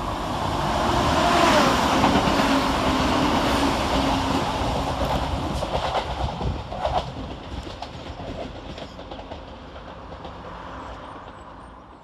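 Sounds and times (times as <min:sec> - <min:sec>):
diesel train passing: 0:00.0 - 0:12.0.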